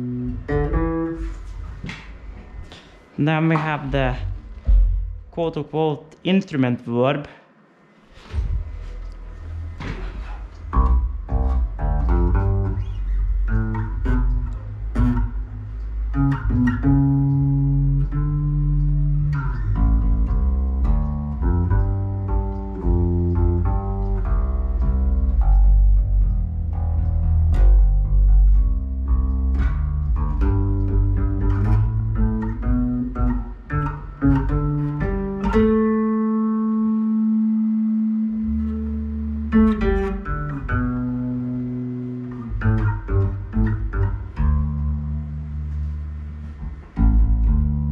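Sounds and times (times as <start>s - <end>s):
electric bass guitar notes: 0.0s - 6.2s, 8.2s - 47.9s.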